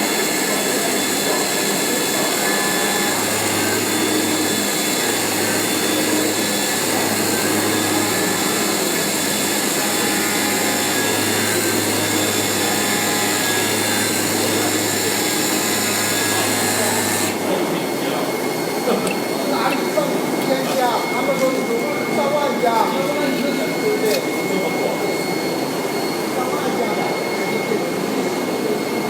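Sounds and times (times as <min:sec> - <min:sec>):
cutting machine whirring: 0:00.0 - 0:29.0.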